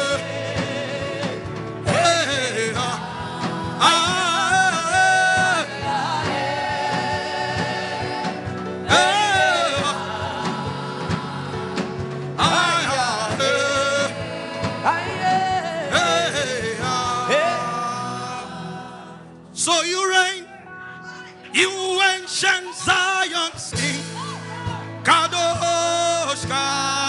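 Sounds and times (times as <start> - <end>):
person singing gospel: 0.0 - 27.0.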